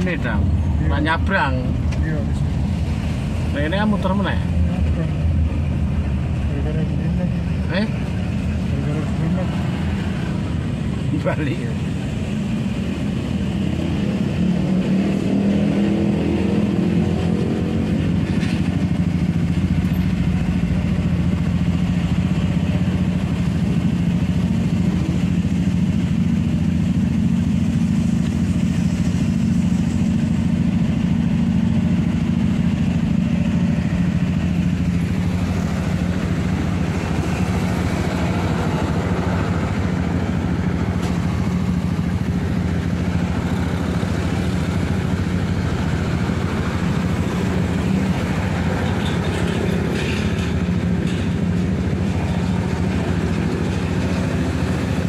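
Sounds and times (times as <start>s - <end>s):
road and wind noise: 0.0s - 55.0s
vehicle engine running: 0.0s - 55.0s.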